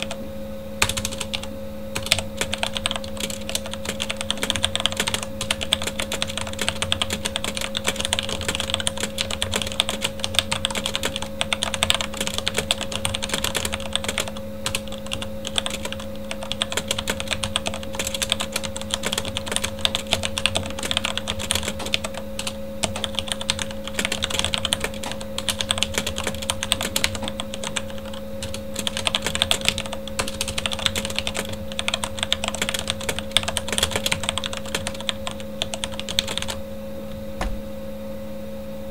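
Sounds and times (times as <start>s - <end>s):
mechanical keyboard typing: 0.0s - 0.2s, 0.8s - 36.6s
computer fan hum: 0.0s - 38.9s.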